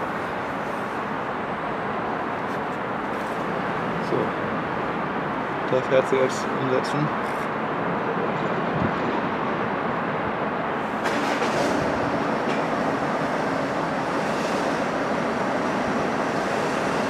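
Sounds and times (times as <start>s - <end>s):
diesel locomotive engine drone: 0.0s - 17.0s
outdoor background noise: 0.0s - 17.0s.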